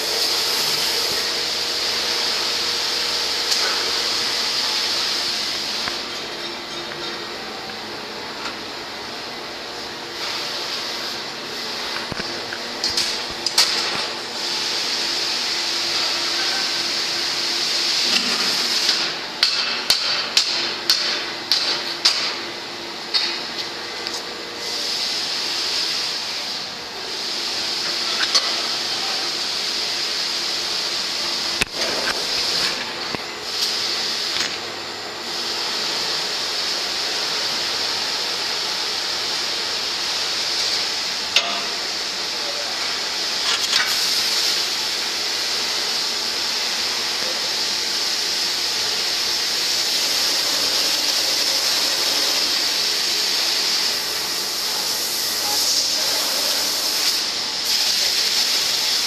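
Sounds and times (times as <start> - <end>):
machinery hiss: 0.0 - 6.7, 7.3 - 19.3, 23.1 - 59.0.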